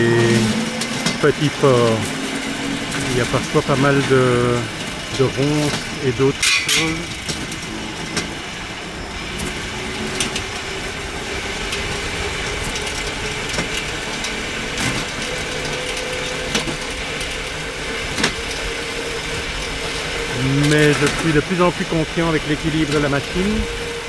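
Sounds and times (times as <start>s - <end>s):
rail cart rolling on track: 0.0s - 24.0s.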